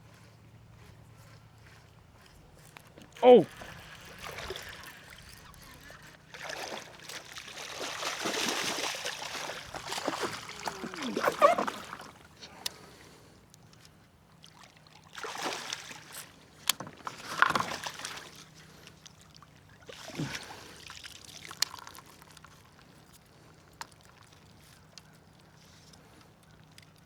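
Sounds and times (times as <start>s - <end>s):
water splashing and sloshing: 1.2s - 27.0s.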